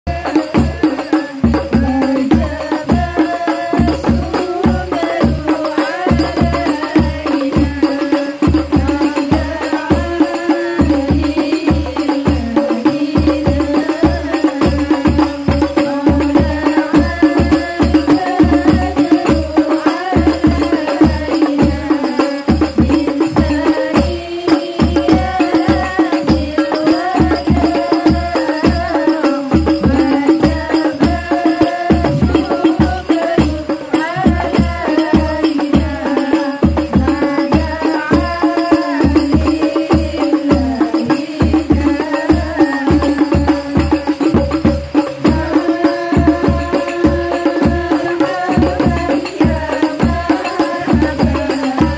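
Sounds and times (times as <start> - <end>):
frame drums beating: 0.1 - 51.9
woman singing into microphone: 0.1 - 51.9.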